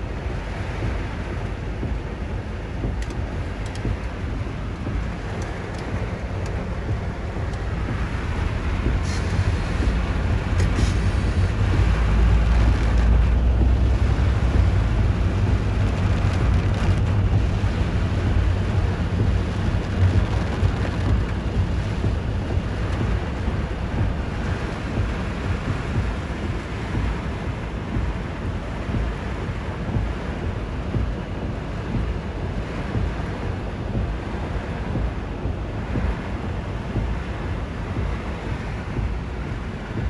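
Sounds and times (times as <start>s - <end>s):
heavy rain: 0.0s - 40.0s
strong wind: 0.0s - 40.0s
wind buffeting microphone: 0.0s - 40.0s.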